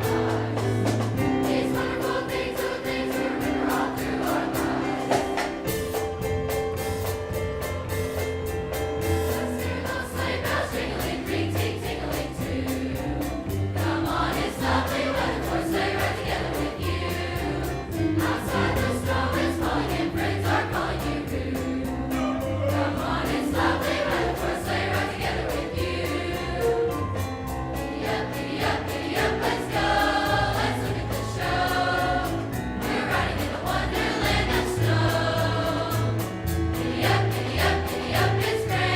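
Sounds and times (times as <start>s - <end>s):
choir singing: 0.0s - 5.8s, 9.2s - 38.9s
instrumental accompaniment: 0.0s - 38.9s.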